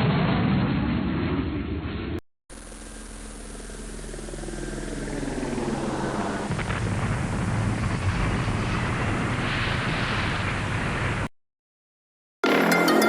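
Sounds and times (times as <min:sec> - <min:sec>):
low rumbling roar: 0:00.0 - 0:11.3.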